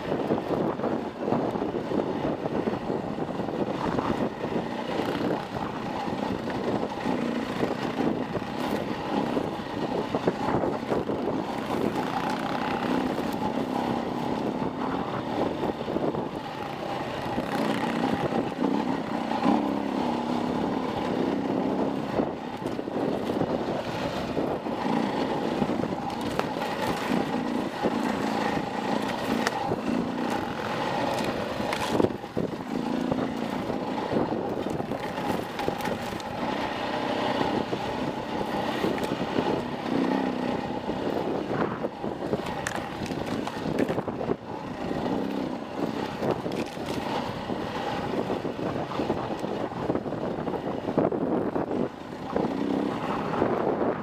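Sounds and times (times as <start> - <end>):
dirt bike engine revving: 3.7 - 49.9, 50.5 - 54.0.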